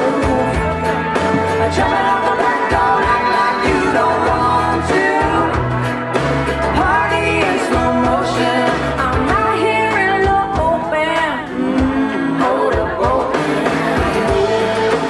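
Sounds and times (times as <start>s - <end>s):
country dance song with vocal: 0.0s - 15.0s.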